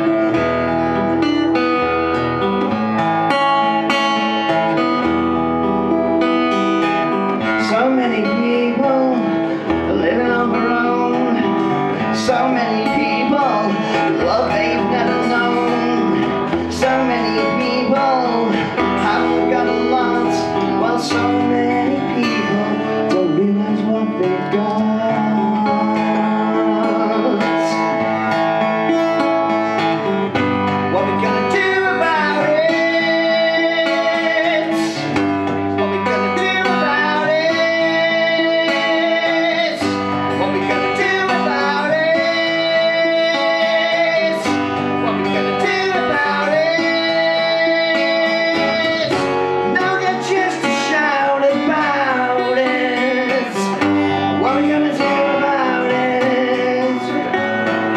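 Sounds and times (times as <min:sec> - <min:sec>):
acoustic guitar strumming: 0:00.0 - 0:57.9
man singing: 0:00.0 - 0:57.9.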